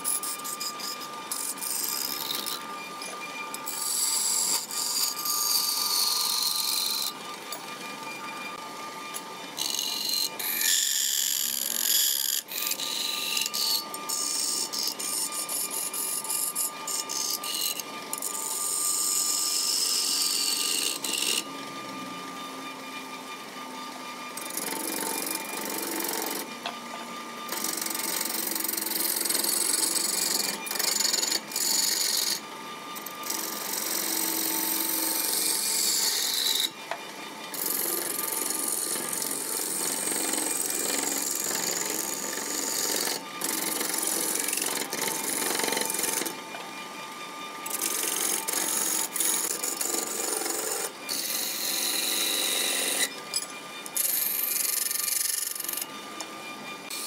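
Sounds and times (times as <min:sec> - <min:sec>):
lathe motor hum: 0:00.0 - 0:57.0
lathe tool cutting wood: 0:00.0 - 0:57.0.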